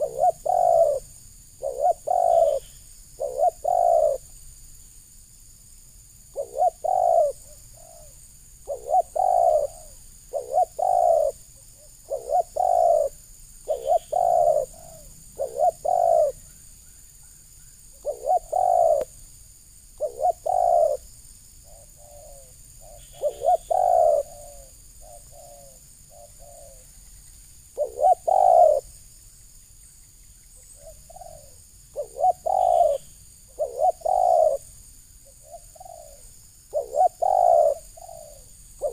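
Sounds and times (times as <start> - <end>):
dove cooing: 0.0 - 4.3, 6.3 - 16.6, 17.9 - 19.1, 20.0 - 26.9, 27.8 - 28.9, 30.6 - 38.9.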